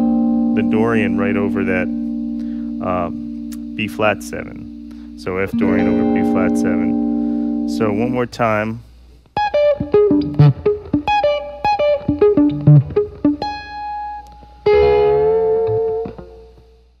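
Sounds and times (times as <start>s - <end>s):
electric guitar lick: 0.0s - 8.0s, 9.4s - 16.8s.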